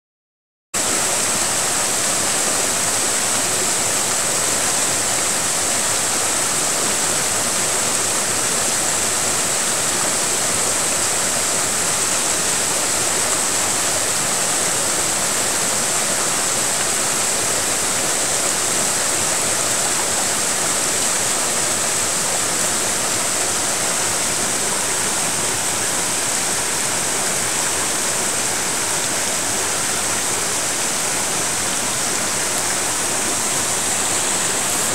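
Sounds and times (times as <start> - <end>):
stream rushing over rocks: 0.8 - 34.9.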